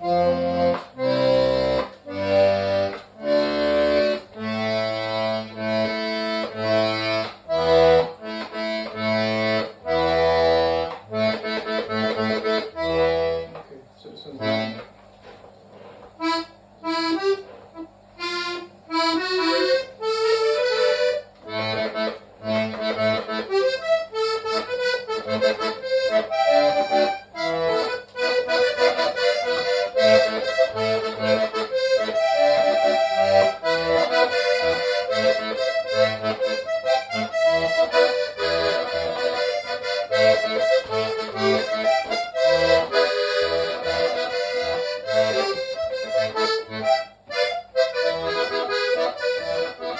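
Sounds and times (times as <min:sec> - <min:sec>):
button accordion playing: 0:00.0 - 0:14.9, 0:16.2 - 0:49.9.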